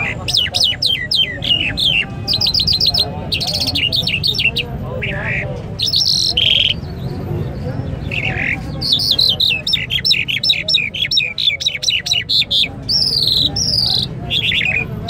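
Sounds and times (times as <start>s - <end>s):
caged bird chirping: 0.0s - 15.0s.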